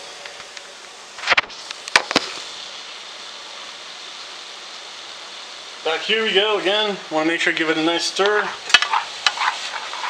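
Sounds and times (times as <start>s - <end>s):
vegetables steaming in a pan: 0.0s - 10.0s.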